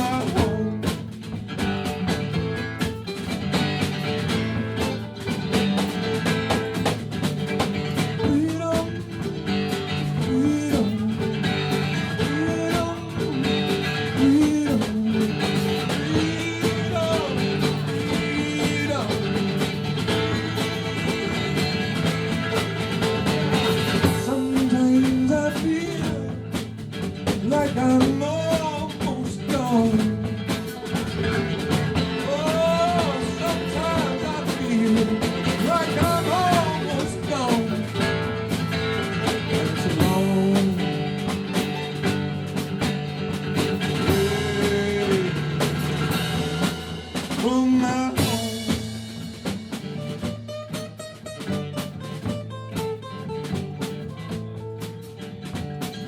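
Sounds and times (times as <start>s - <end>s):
country-rock band playing: 0.0s - 56.0s.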